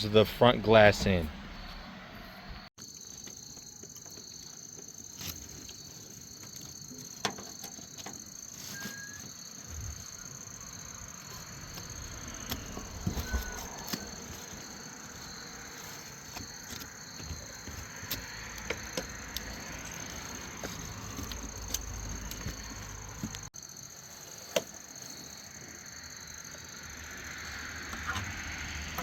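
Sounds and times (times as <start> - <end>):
high insect chirring: 2.8 - 29.0.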